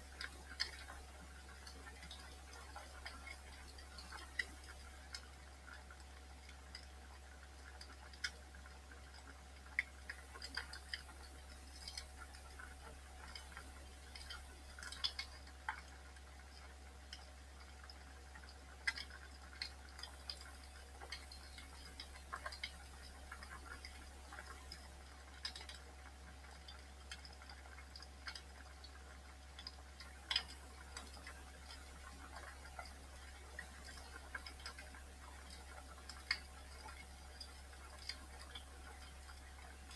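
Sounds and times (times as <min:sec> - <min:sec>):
wood fire crackling and popping: 0:06.0 - 0:39.9.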